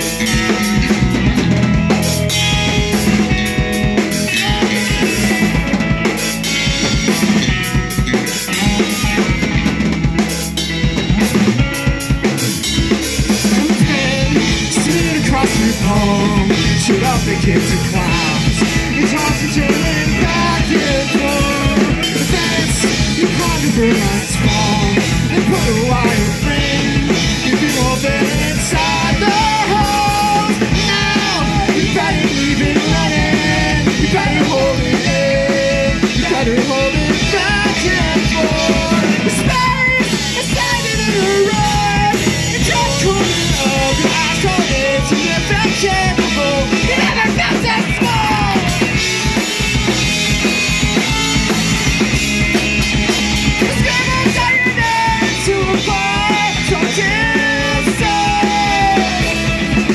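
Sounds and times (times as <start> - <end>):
drum kit: 0.0 - 59.9
electric bass: 0.0 - 59.9
electric guitars: 0.0 - 59.9
man singing lead: 0.0 - 59.9.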